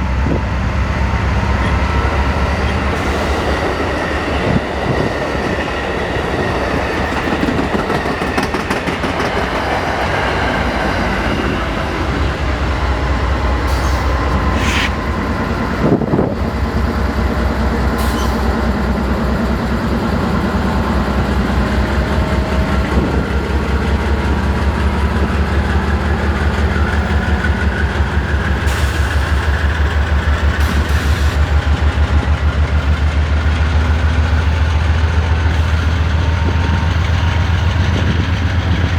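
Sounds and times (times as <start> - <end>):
low train rumble: 0.0 - 38.9
train wheels clacking: 0.9 - 38.9.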